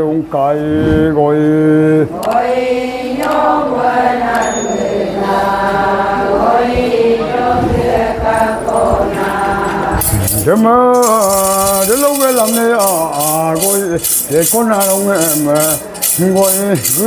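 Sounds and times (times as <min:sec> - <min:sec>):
voices chanting a melody: 0:02.0 - 0:17.0.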